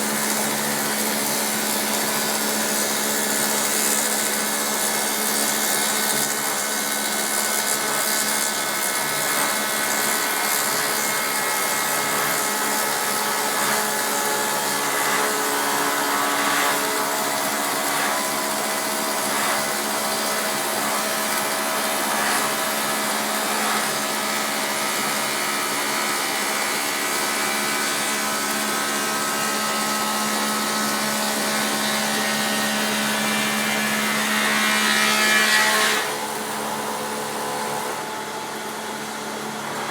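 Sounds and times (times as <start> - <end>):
wood being cut: 0.0 - 39.9.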